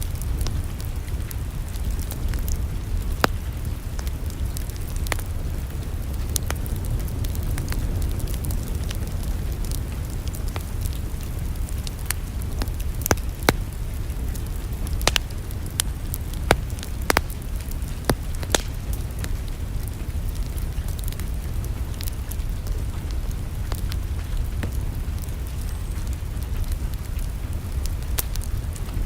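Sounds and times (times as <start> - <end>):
low fire rumble: 0.0 - 29.0
wood fire crackling: 0.0 - 29.0.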